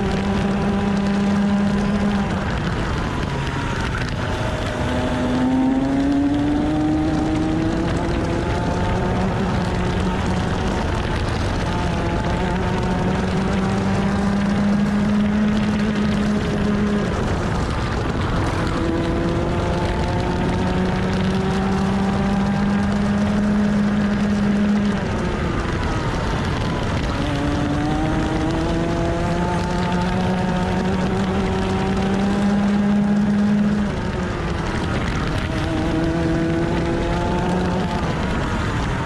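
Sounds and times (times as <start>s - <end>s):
kart engine revving: 0.0s - 39.0s.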